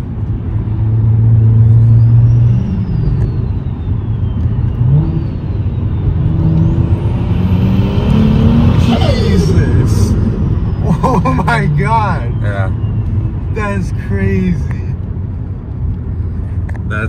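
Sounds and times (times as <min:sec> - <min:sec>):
car engine drone from inside cabin: 0:00.0 - 0:17.0.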